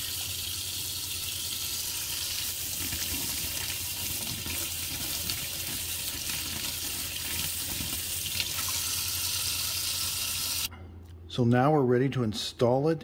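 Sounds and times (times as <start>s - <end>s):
faucet running into sink: 0.0s - 10.7s.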